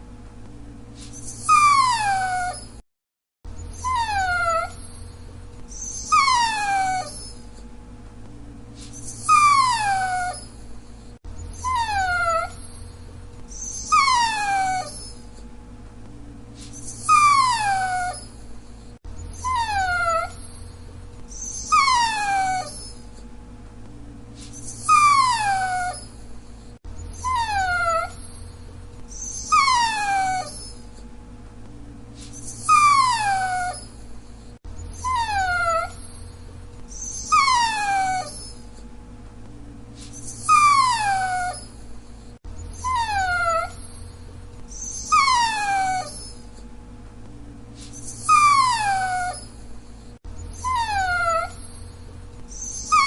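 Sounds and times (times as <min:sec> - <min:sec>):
dog whining: 0:01.0 - 0:02.8, 0:03.5 - 0:07.7, 0:08.8 - 0:15.5, 0:16.6 - 0:23.3, 0:24.4 - 0:31.1, 0:32.2 - 0:38.9, 0:40.0 - 0:46.7, 0:47.8 - 0:53.0.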